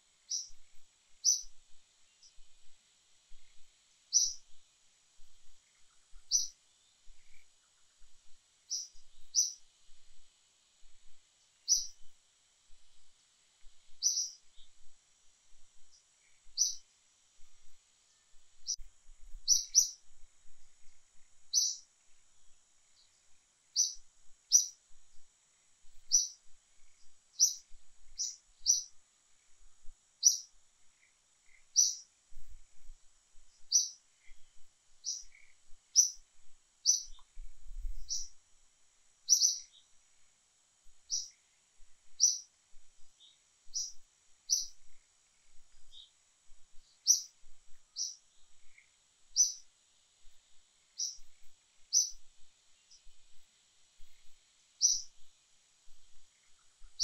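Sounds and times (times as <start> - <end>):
faint high hiss: 0.0 - 57.0.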